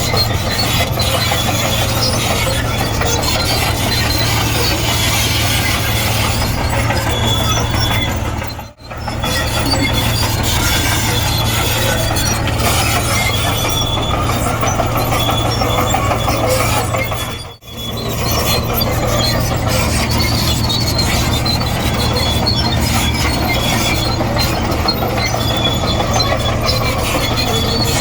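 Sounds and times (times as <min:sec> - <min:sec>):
bulldozer diesel engine drone: 0:00.0 - 0:28.0
steel tracks squealing and clanking: 0:00.0 - 0:28.0.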